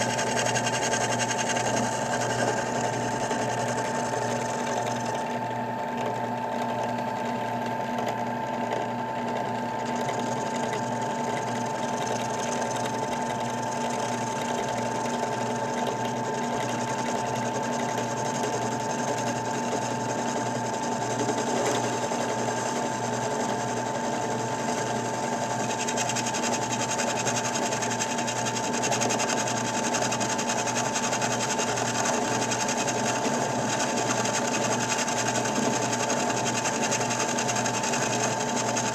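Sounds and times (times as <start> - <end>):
drill press motor hum: 0.0 - 38.9.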